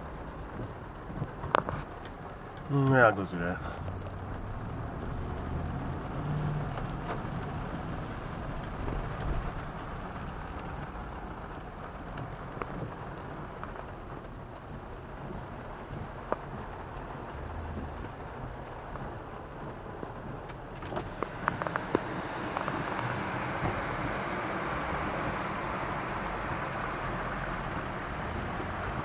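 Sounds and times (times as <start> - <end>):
low hum of car: 0.0 - 29.0
rain on car windshield and roof: 0.0 - 29.0.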